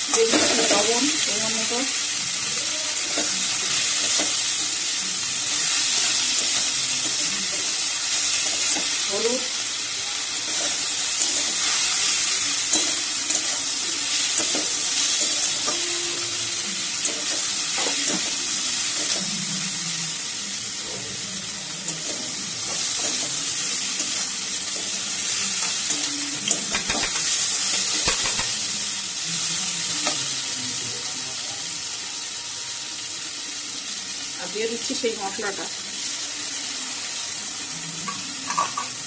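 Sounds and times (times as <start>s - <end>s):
vegetables sizzling in hot oil: 0.0s - 39.0s.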